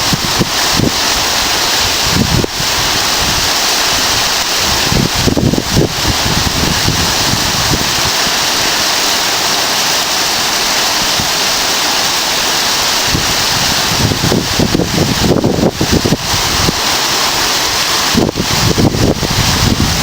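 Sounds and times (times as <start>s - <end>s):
wind buffeting microphone: 0.0s - 8.9s, 12.6s - 20.0s
steady rushing hiss: 0.0s - 20.0s.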